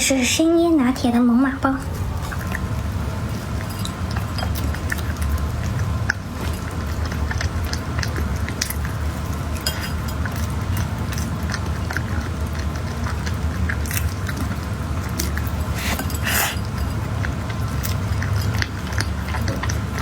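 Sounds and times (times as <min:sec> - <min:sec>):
chewing with wet mouth clicks: 0:01.8 - 0:20.0.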